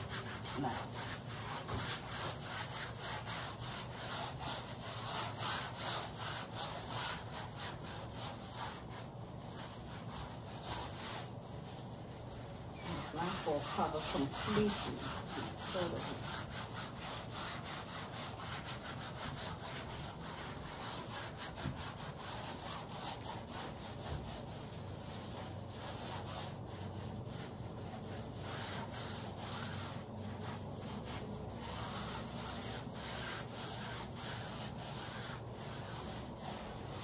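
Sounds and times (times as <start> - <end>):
gloved hand rubbing paint on canvas: 0.0 - 37.0.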